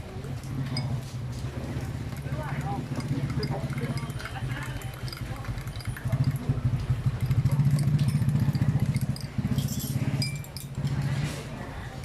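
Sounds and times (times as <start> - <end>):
light clinks and rattles: 0.2 - 12.0
motorcycle engine running: 0.3 - 12.0.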